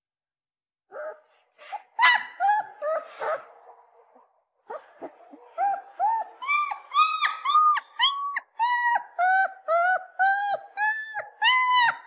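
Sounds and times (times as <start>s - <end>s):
puppy whining: 0.9s - 3.5s, 4.6s - 12.0s.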